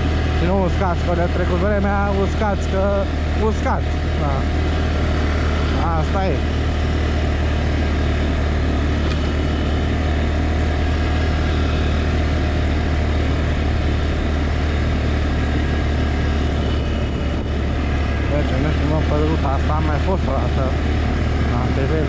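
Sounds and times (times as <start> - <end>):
atv engine droning: 0.0 - 22.0.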